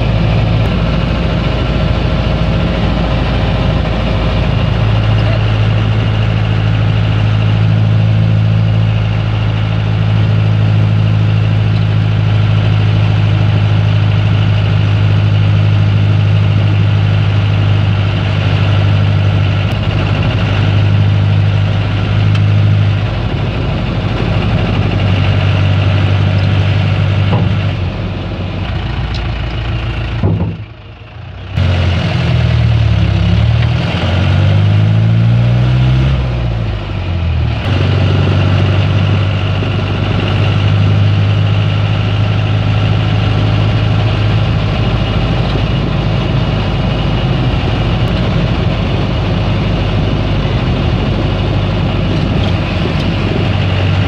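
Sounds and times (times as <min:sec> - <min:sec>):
vehicle engine and road drone: 0:00.0 - 0:54.0.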